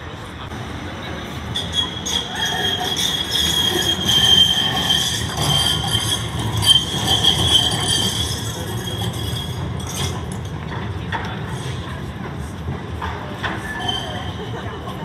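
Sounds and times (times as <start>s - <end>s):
low rumble of moving tram: 0.0s - 15.0s
tram wheels squealing: 0.0s - 15.0s.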